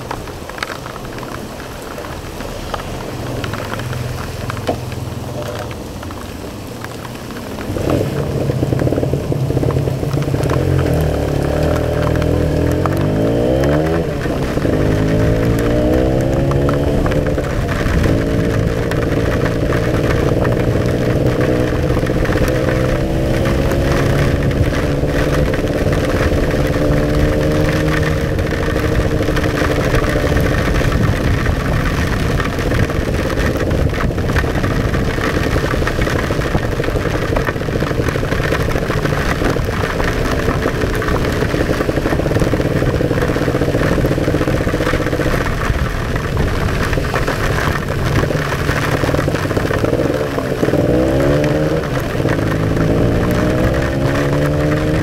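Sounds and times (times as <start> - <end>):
motorcycle engine revving: 7.4 - 55.0.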